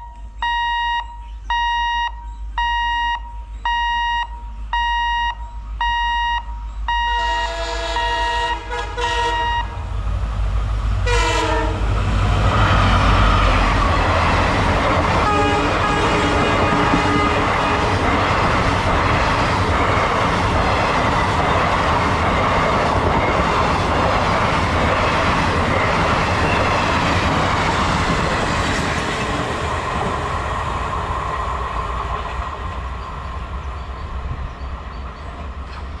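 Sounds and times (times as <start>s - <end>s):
train wheels rumbling on rails: 6.6s - 36.0s.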